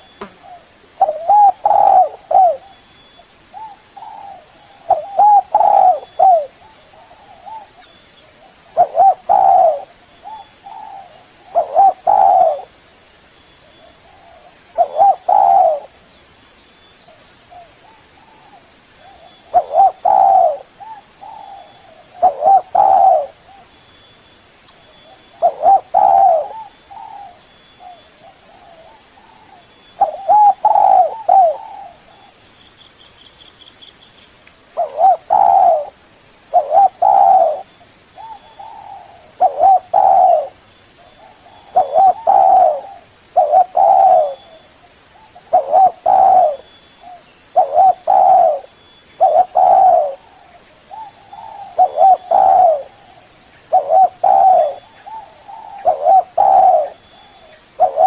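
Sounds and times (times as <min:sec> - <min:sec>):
dove cooing: 0:00.0 - 0:02.8, 0:03.5 - 0:12.8, 0:13.8 - 0:16.0, 0:17.5 - 0:23.7, 0:25.0 - 0:32.4, 0:34.8 - 0:35.9, 0:36.5 - 0:58.0.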